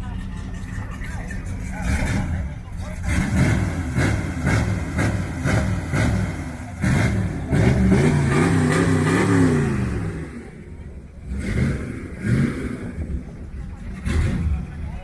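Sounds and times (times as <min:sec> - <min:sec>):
car engine revving: 0:00.6 - 0:15.0.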